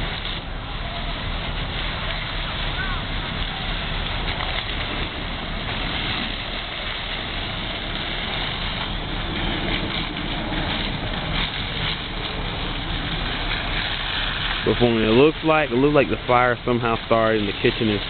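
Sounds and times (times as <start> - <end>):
fire engine pump running: 0.0 - 18.0
hoses spraying water: 0.0 - 18.0.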